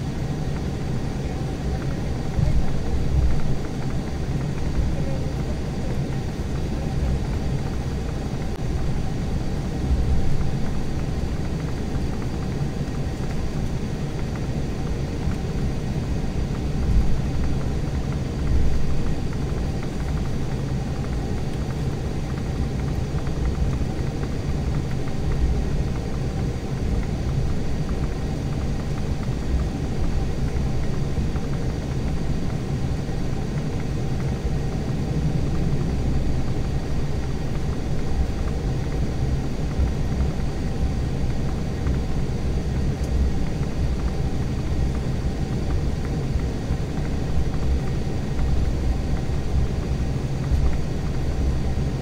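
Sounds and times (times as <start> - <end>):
airliner cabin rumble: 0.0 - 52.0
jet engines humming at low power: 0.0 - 52.0.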